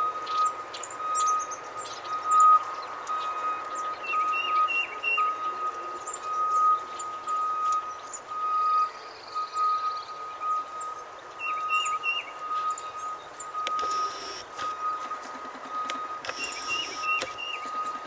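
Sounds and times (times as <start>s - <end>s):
distant reversing beeper: 0.0s - 18.0s
small birds chirping: 0.2s - 18.0s.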